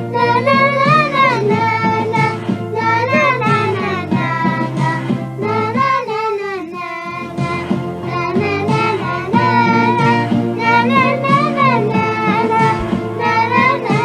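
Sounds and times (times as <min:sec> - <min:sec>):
backing track: 0:00.0 - 0:14.0
person singing: 0:00.0 - 0:14.0.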